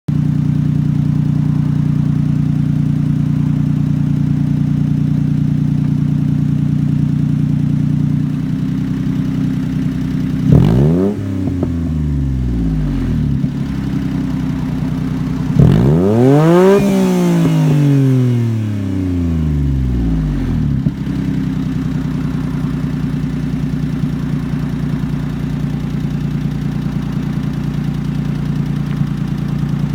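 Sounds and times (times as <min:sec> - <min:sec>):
engine idling and revving: 0:00.1 - 0:29.9.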